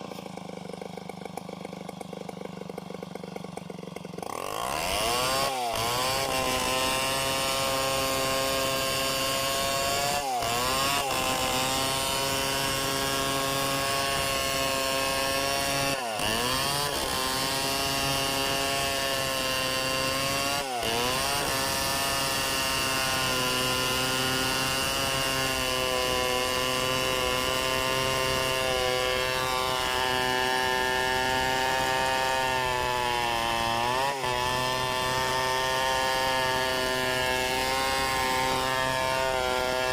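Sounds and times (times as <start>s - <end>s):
chainsaw cutting hardwood: 0.0s - 39.9s.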